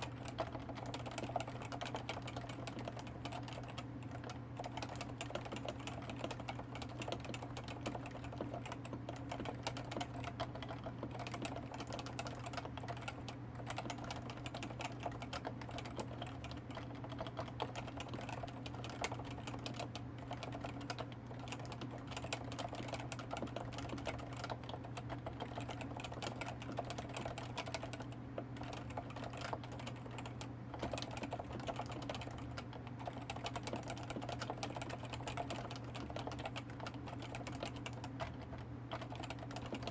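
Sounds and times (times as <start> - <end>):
soft keyboard keystrokes: 0.0 - 39.9.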